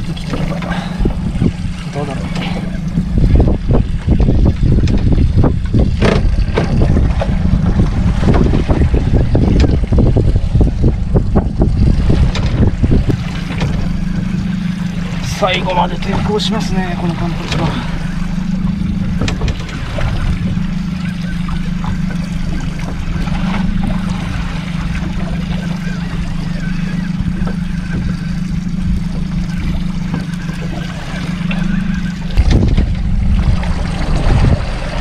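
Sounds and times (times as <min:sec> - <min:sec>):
outboard motor idling: 0:00.0 - 0:35.0
wind buffeting microphone: 0:00.0 - 0:35.0.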